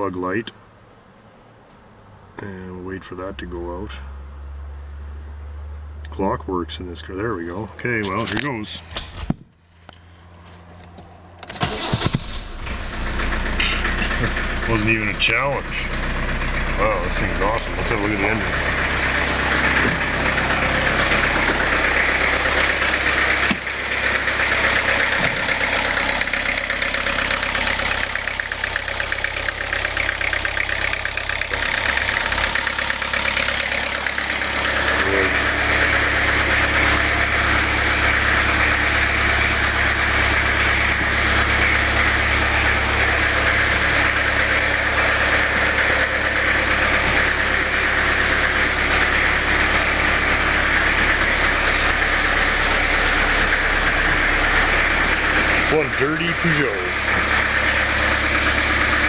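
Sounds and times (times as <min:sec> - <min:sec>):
diesel engine idling: 0:10.0 - 0:59.0.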